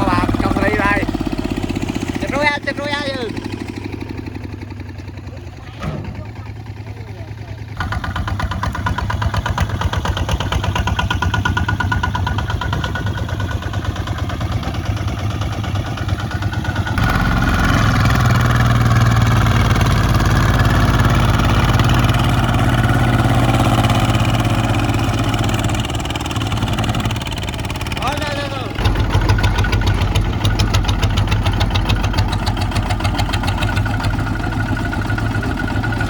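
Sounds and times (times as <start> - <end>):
diesel tractor engine running: 0.0 - 36.0.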